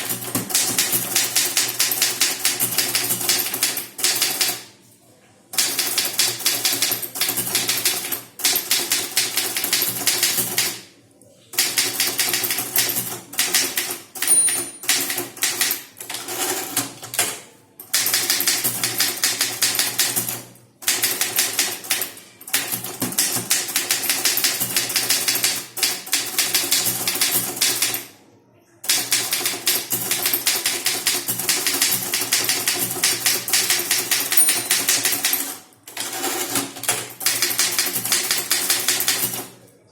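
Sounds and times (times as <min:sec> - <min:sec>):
typewriter keystrokes clattering: 0:00.0 - 0:04.6, 0:05.6 - 0:10.8, 0:11.6 - 0:28.1, 0:28.9 - 0:39.6.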